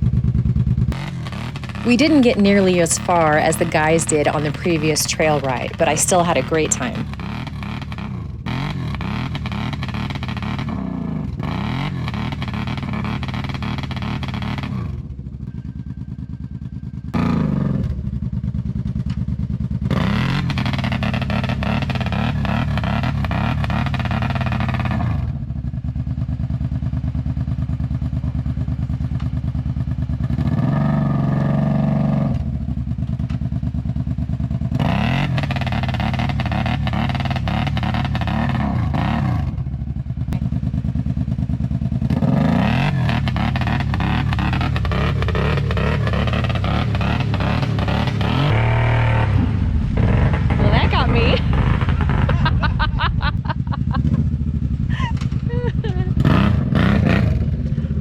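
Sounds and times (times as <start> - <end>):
atv engine running under load: 0.0 - 58.0.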